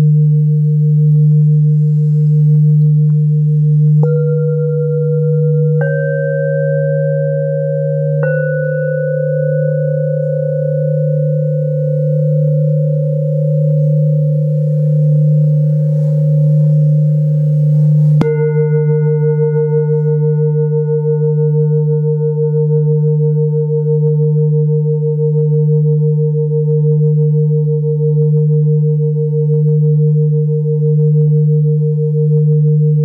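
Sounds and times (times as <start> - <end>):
singing bowls ringing: 0.0 - 33.0
steady deep hum: 0.0 - 33.0.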